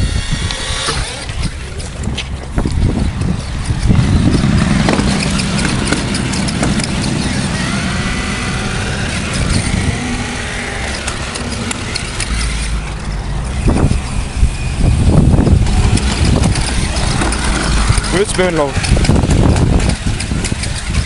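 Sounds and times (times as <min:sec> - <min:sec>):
toy car electric motors whining: 0:00.0 - 0:21.0
toy car thumping wooden fence: 0:00.5 - 0:13.1, 0:15.5 - 0:21.0.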